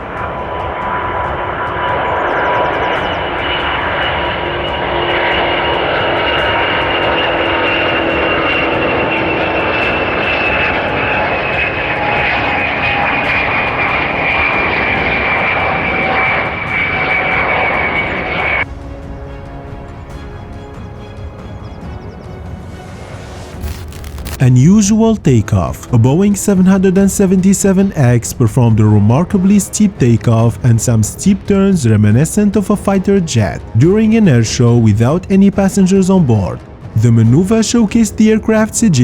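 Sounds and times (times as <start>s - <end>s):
jet engines roaring with whine: 0.0s - 39.0s.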